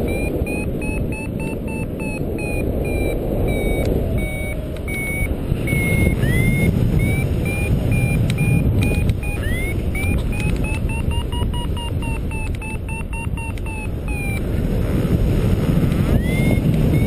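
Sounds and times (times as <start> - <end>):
variometer beeping: 0.0 - 14.7, 15.5 - 17.0
wind rushing over microphone: 0.0 - 17.0.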